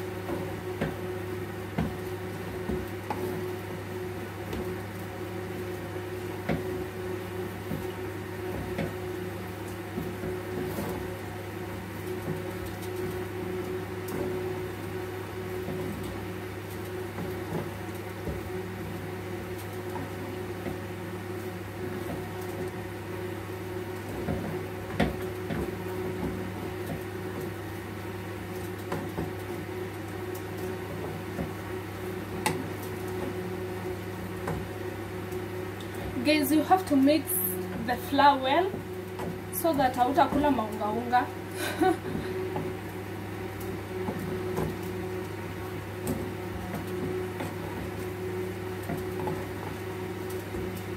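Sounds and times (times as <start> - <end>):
appliance motor hum: 0.0 - 50.9.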